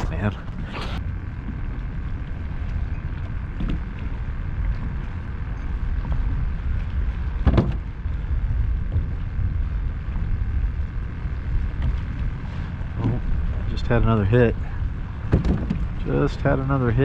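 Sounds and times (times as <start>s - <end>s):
faint steady whine: 0.0s - 17.0s
wind buffeting microphone: 0.0s - 17.0s.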